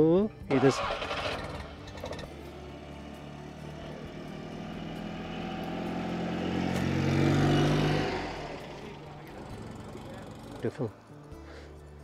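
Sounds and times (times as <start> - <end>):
small car engine driving past: 0.8 - 11.4.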